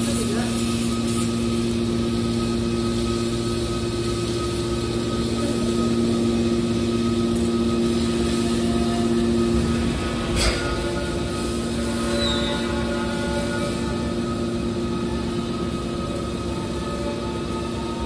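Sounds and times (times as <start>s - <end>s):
hydraulic power unit humming: 0.0s - 18.0s.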